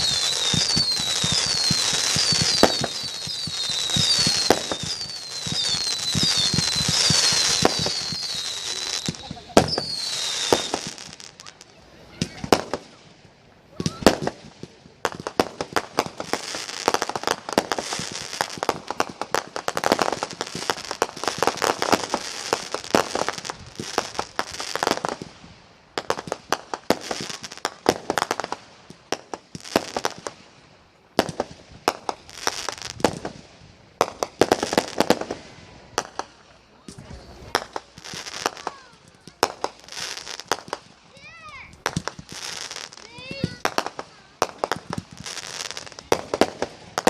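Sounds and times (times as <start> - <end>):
fireworks bangs and pops: 0.0 - 47.0
fireworks crackling: 0.0 - 47.0.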